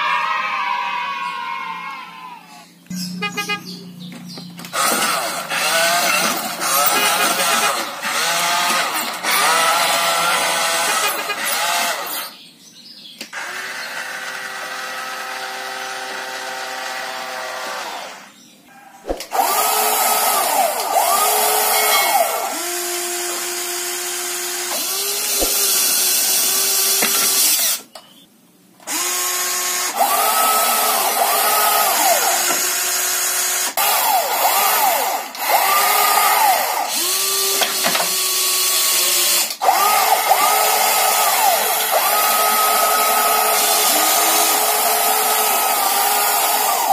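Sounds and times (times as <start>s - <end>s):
toy vehicle motors whining: 4.2s - 12.4s, 13.3s - 18.4s, 19.2s - 46.9s.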